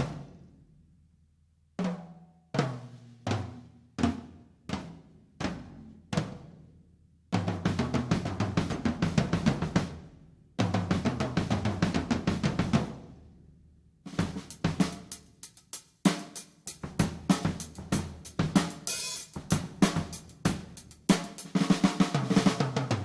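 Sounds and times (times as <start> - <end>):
kick and snare drums: 0.0 - 0.5, 1.8 - 13.3, 14.0 - 23.0
tom drums played: 0.0 - 0.5, 1.8 - 6.7, 7.3 - 13.3, 14.0 - 23.0.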